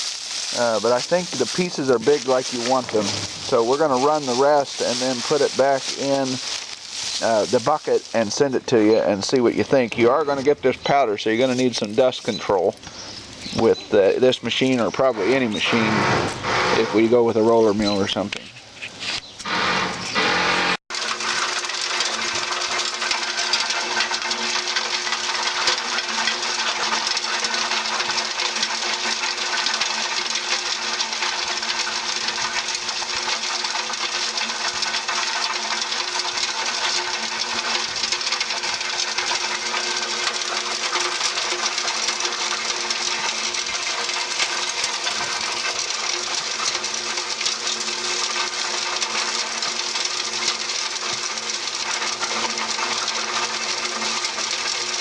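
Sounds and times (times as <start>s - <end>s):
machine hum: 0.0s - 11.9s, 12.7s - 17.6s, 19.4s - 55.0s
rotor rattling: 0.0s - 17.8s, 19.4s - 55.0s.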